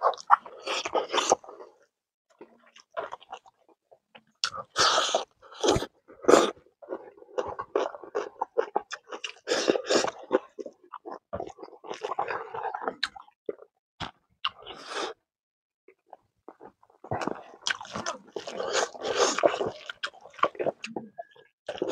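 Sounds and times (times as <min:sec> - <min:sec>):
person chewing: 0:00.0 - 0:01.8, 0:02.4 - 0:03.7, 0:04.4 - 0:15.0, 0:16.0 - 0:21.9.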